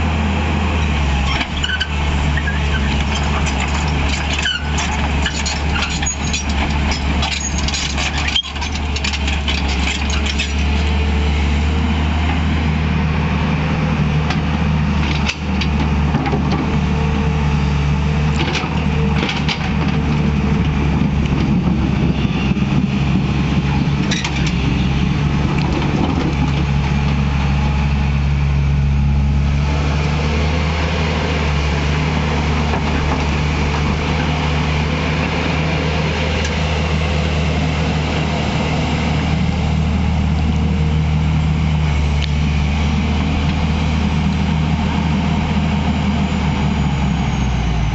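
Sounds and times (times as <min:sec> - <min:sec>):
excavator diesel engine droning: 0:00.0 - 0:47.9.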